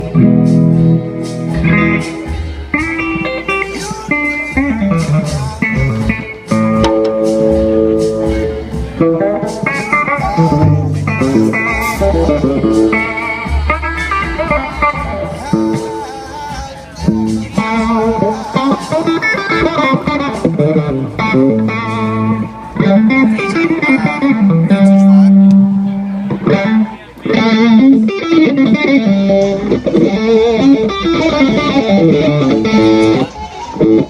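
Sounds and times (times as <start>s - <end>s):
bluesy electric guitar lead: 0.0s - 34.0s.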